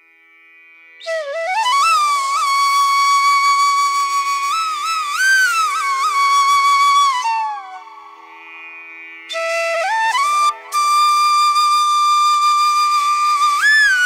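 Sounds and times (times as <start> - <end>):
flute-like melody: 1.0 - 8.3, 9.3 - 14.0.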